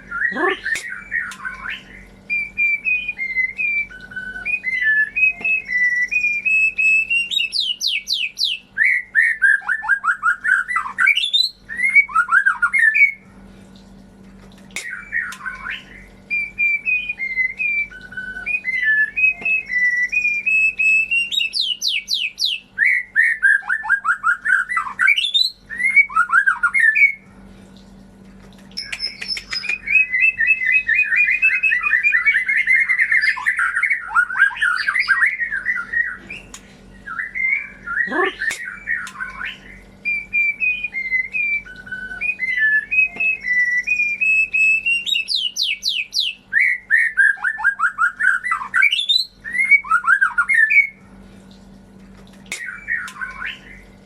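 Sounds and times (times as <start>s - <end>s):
bird singing whistled phrases: 0.0s - 13.2s, 14.8s - 27.2s, 28.8s - 51.0s, 52.5s - 53.8s
faint steady hum: 0.0s - 54.0s.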